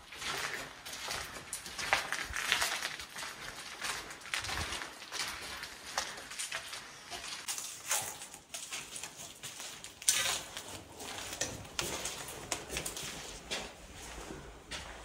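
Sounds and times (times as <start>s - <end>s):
footsteps crunching on gritty floor: 0.0s - 15.0s.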